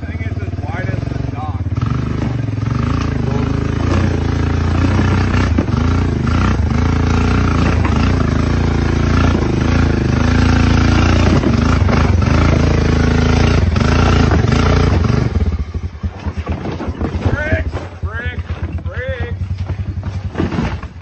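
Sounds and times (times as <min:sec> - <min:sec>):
small atv engine revving: 0:00.0 - 0:21.0.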